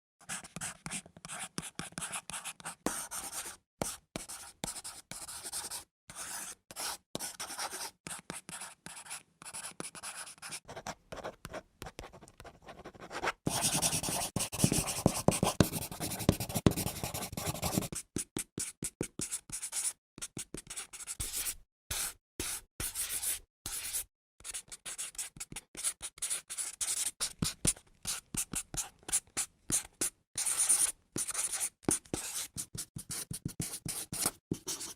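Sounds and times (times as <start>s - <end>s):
pencil scratching on paper: 0.2s - 34.9s.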